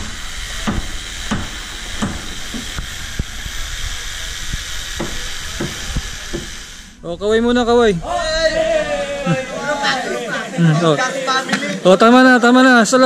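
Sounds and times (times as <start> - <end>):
low rumble: 0.0 - 11.1
steady hiss: 0.0 - 12.7.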